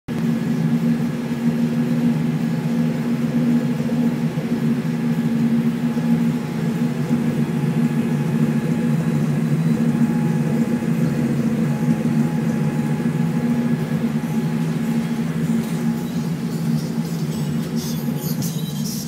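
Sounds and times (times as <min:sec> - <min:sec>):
car engine idling: 0:00.1 - 0:19.0.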